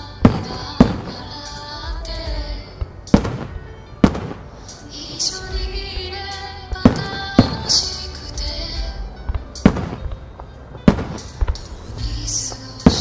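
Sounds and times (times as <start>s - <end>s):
firework bangs: 0.0s - 1.7s, 2.7s - 13.0s
music playing: 0.0s - 13.0s.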